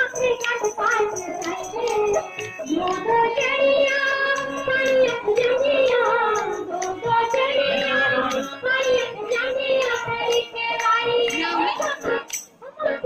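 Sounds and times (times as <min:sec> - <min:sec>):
percussion beat: 0:00.0 - 0:12.6
high voices singing: 0:00.0 - 0:13.0.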